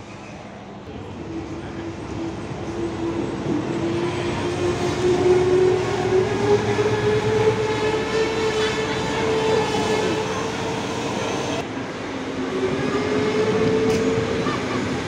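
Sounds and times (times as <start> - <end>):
diesel railbus engine whine: 0.0 - 15.0.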